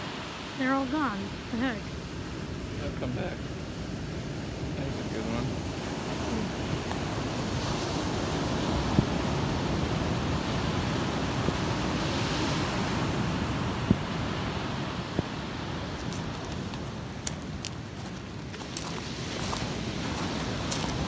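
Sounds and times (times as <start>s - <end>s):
surf breaking on beach: 0.0s - 21.0s
wind on microphone: 0.0s - 21.0s.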